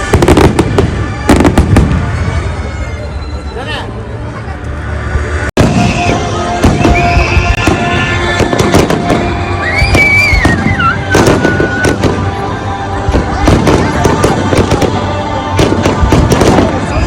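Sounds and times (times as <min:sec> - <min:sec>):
fireworks bangs and crackles: 0:00.0 - 0:03.2, 0:05.1 - 0:17.0
music playing: 0:00.0 - 0:17.0.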